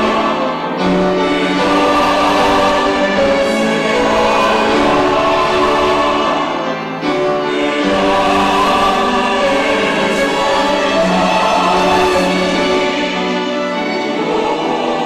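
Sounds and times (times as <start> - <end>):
church choir singing: 0.0 - 15.0.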